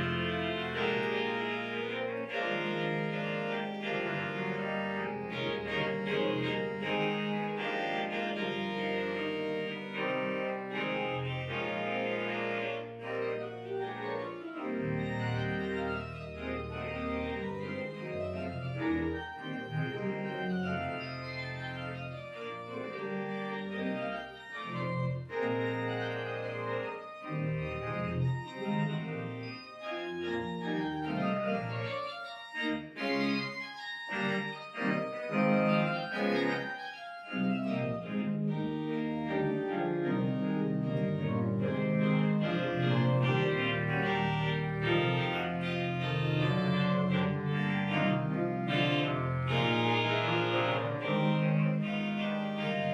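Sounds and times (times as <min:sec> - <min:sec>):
deep organ pedal bass notes: 0:00.0 - 0:52.9
pipe organ playing chords: 0:00.0 - 0:52.9.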